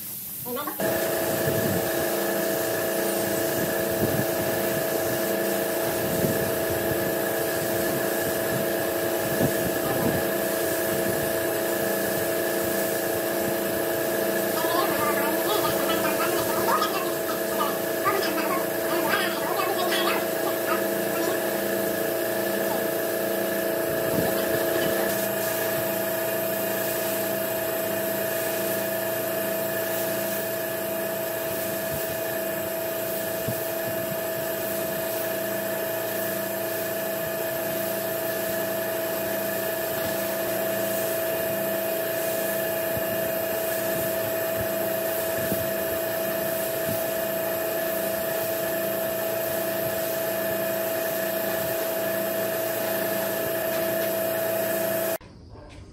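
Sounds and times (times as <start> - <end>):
spray gun hissing: 0.0 - 55.2
mechanical hum: 0.0 - 55.9.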